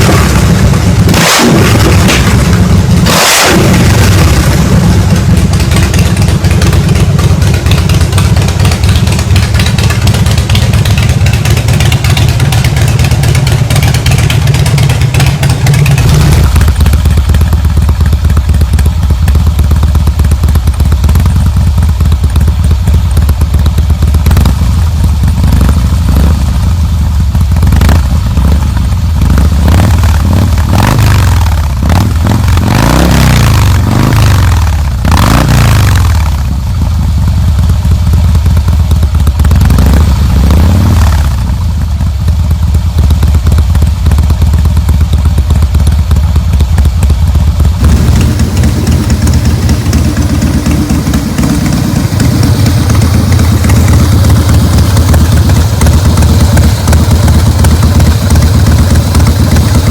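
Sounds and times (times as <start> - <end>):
motorcycle engine exhaust: 0.0 - 59.9.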